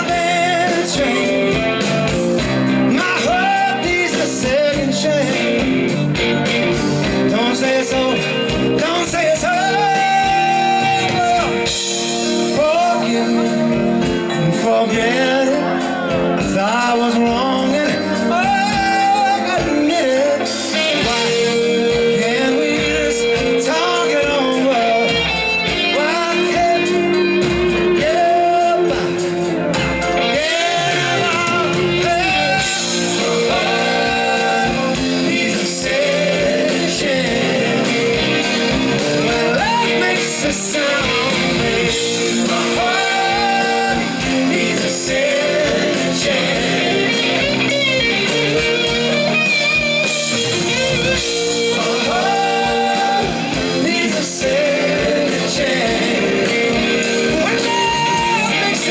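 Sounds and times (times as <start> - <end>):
electric guitar: 0.0 - 58.9
lead singer singing: 0.0 - 58.9
rock band playing live: 0.0 - 58.9.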